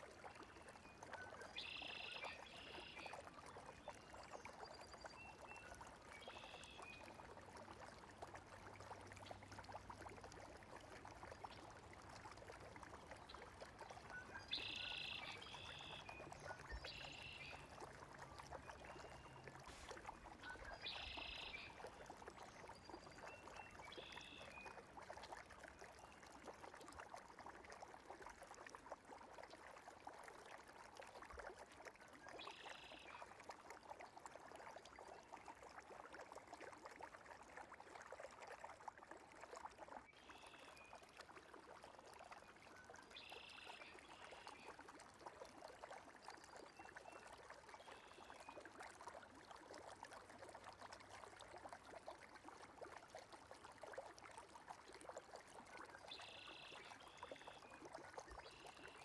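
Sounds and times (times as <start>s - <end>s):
creek running over stones: 0.0s - 59.0s.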